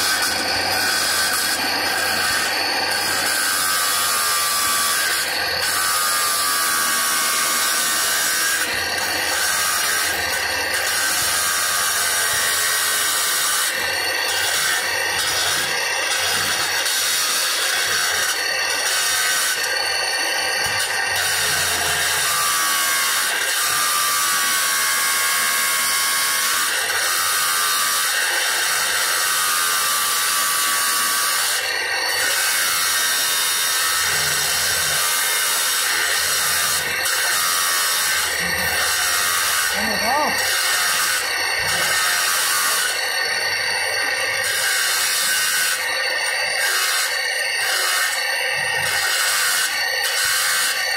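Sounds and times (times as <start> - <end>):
marble cutter grinding whine: 0.0 - 50.9.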